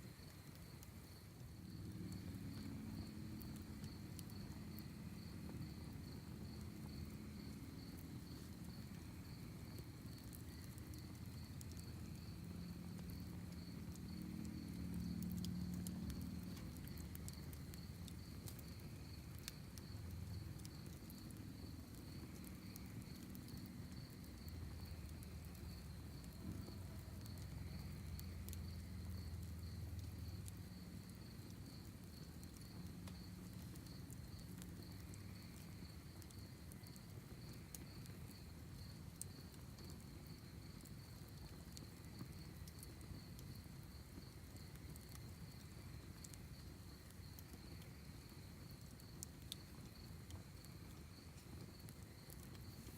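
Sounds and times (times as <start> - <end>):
crickets chirping: 0.0 - 52.9
wood fire crackling: 0.0 - 52.9.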